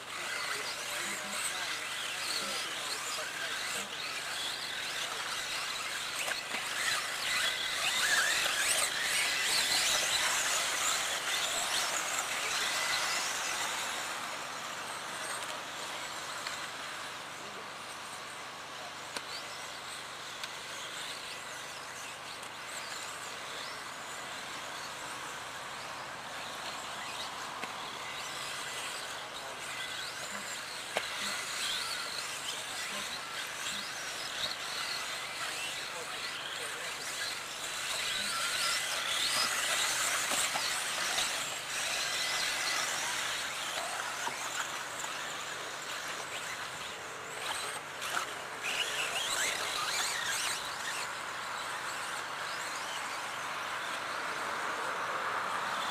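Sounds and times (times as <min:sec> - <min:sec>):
electric toy car motors whining: 0:00.0 - 0:55.9.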